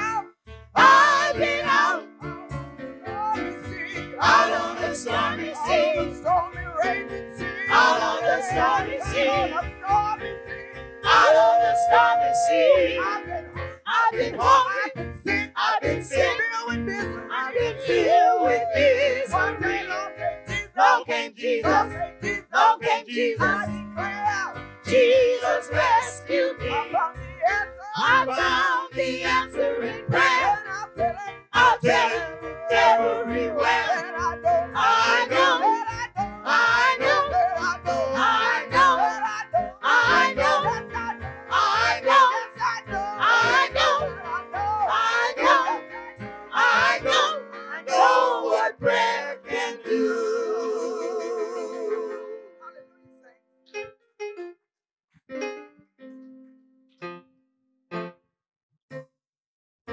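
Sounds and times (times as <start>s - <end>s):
gospel group singing: 0.8s - 52.5s.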